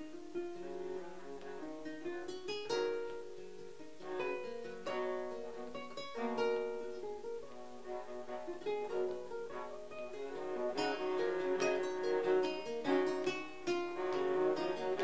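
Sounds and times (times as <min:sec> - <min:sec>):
plucked string chords: 0:00.0 - 0:15.0
viola bowed notes: 0:00.0 - 0:15.0.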